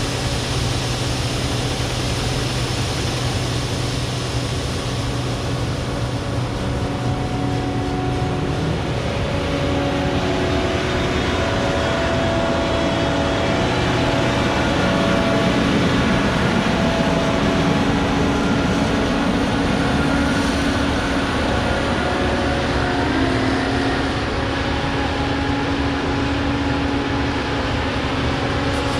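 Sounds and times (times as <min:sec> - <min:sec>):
combine harvester running: 0:00.0 - 0:28.9
machinery whining tones: 0:00.0 - 0:28.9.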